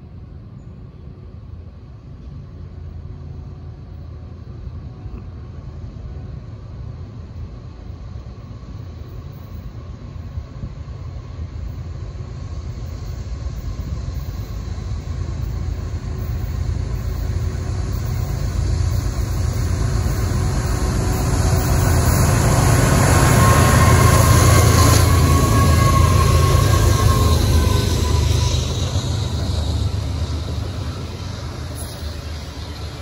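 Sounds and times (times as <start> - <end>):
diesel locomotive rumble: 0.0 - 33.0.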